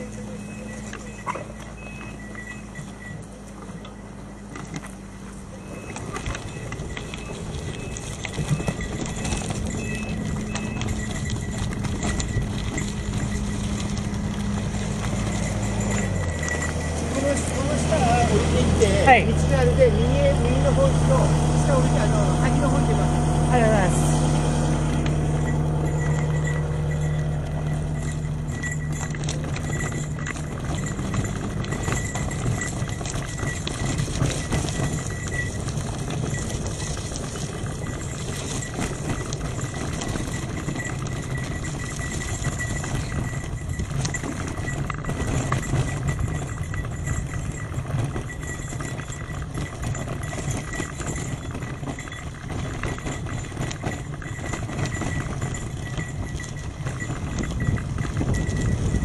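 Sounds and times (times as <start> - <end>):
bicycle rattling on rough trail: 0.0 - 59.0
vehicle engine idling: 0.0 - 59.0.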